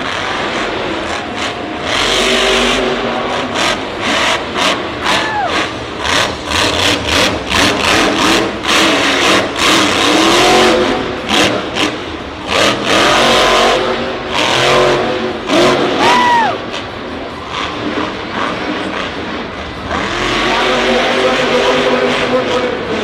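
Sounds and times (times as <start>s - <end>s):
monster truck engines revving: 0.0s - 23.0s.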